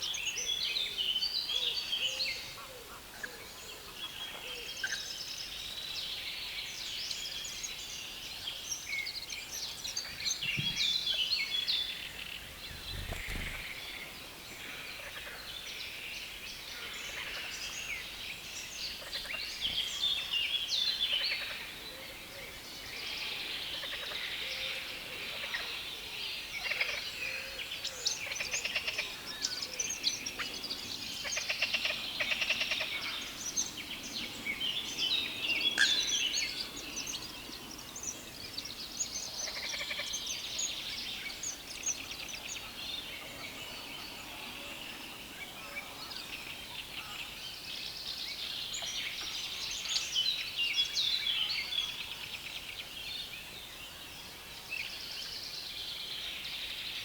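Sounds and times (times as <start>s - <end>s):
songbirds chorus chattering: 0.0s - 57.0s.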